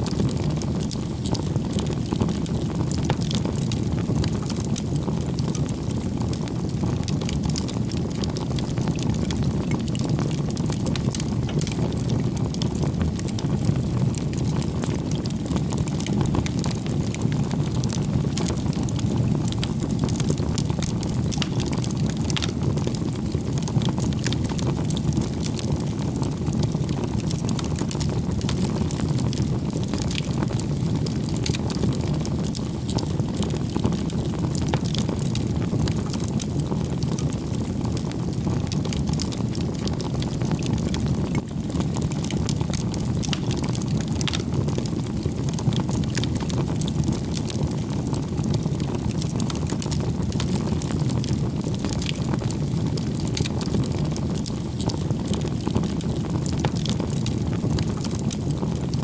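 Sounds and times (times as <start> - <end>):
crackles of burning wood: 0.0 - 59.0.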